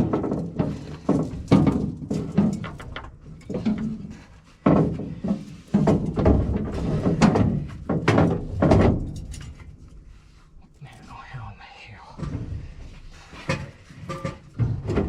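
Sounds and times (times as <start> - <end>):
metal knocks and clanks: 0.0 - 10.0, 12.3 - 15.0.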